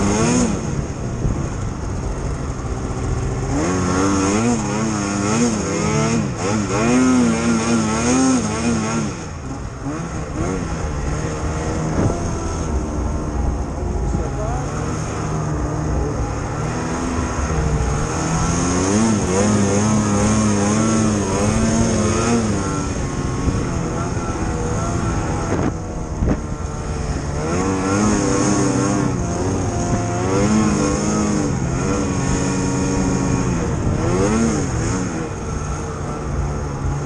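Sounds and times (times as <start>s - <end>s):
snowmobile engine under throttle: 0.0s - 37.0s.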